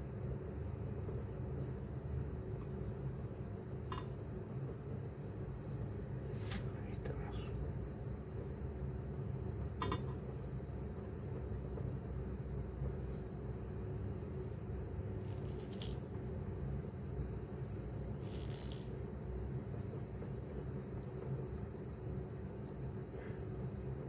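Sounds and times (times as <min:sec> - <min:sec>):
low background rumble: 0:00.0 - 0:24.0.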